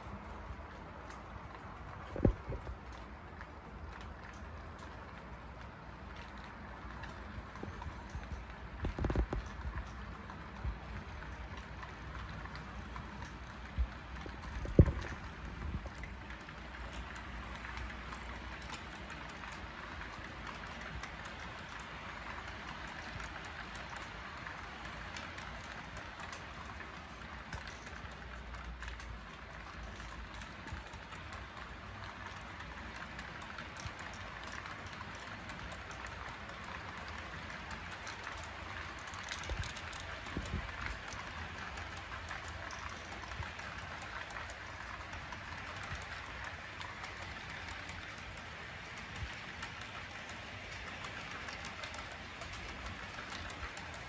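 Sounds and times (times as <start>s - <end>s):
small clicks: 0.0s - 54.0s
model train wheels hissing on track: 10.1s - 54.0s.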